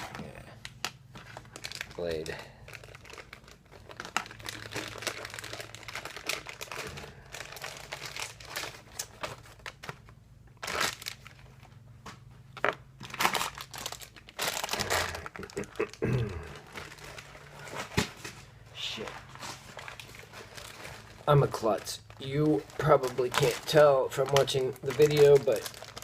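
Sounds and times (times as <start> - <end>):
packaging crinkling and rustling: 0.0 - 26.0.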